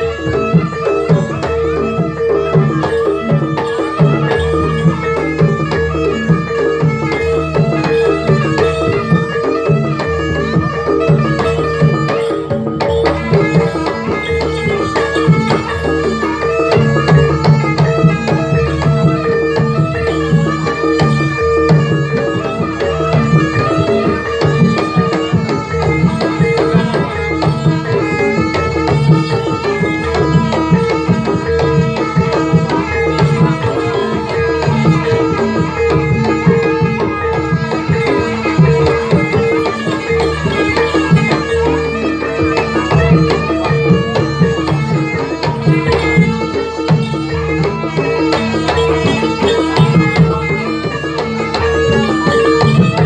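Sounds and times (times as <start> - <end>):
gamelan percussion: 0.0 - 53.0
hand drums: 0.0 - 53.0
steady held note: 6.8 - 53.0.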